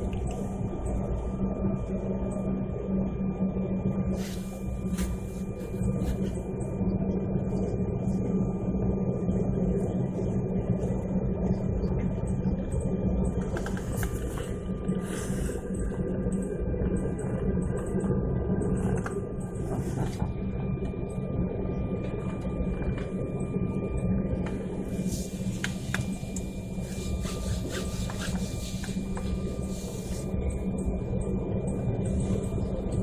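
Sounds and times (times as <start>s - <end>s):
airliner cabin drone and whine: 0.0s - 33.0s.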